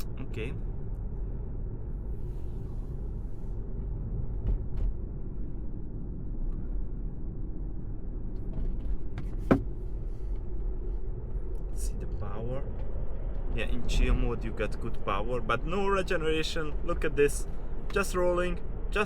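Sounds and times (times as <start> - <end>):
road and tyre noise in car cabin: 0.0 - 19.0.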